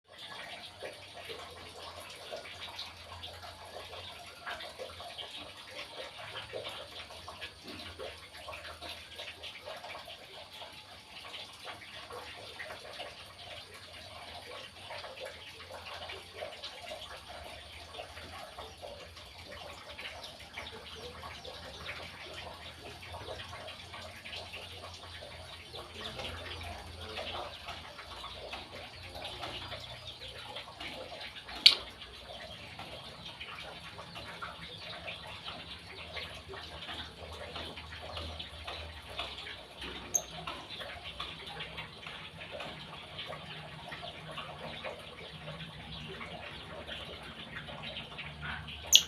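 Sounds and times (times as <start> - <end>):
birds chirping and chattering: 0.1 - 49.0.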